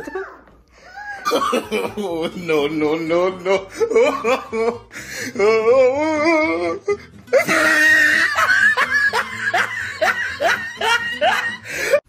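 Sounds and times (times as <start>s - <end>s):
person laughing heartily: 0.9s - 2.8s, 3.4s - 12.0s.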